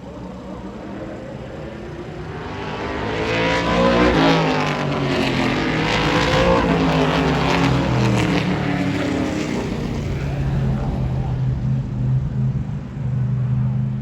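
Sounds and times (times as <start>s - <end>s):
trucks racing past: 0.0s - 14.0s.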